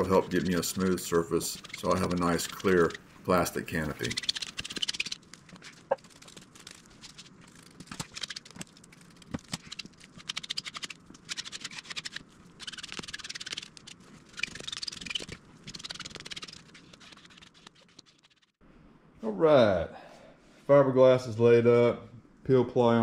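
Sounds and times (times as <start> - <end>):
plastic card scraping over fabric: 0.0 - 18.6.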